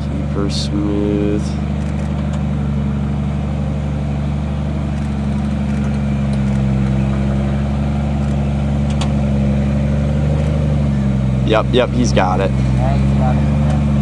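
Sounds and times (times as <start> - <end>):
vehicle engine at low revs: 0.0 - 14.0.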